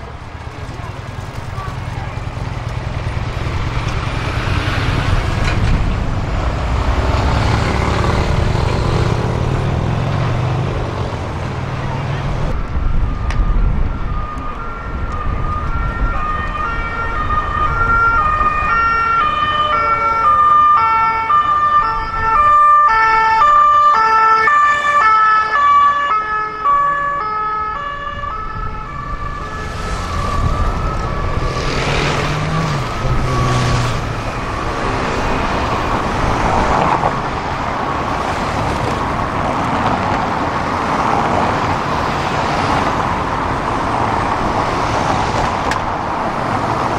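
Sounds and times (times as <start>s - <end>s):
car engines passing: 0.0s - 46.9s
city traffic noise: 0.0s - 46.9s
police two-tone sirens: 1.1s - 46.9s.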